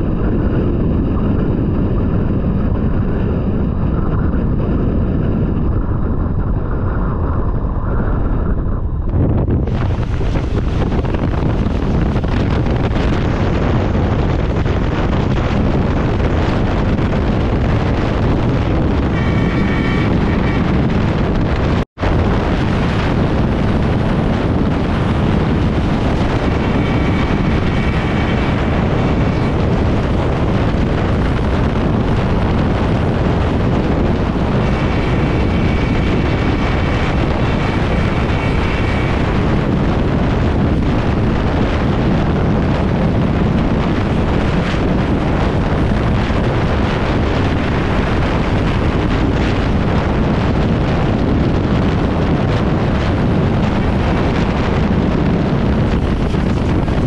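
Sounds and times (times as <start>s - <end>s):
train rumbling: 0.0s - 57.0s
wind buffeting microphone: 0.0s - 57.0s.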